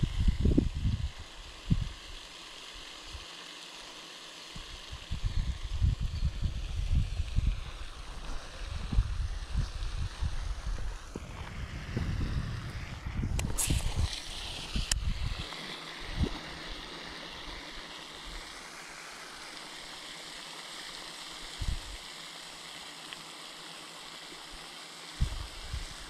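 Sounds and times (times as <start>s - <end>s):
outdoor hiss: 0.0s - 26.0s.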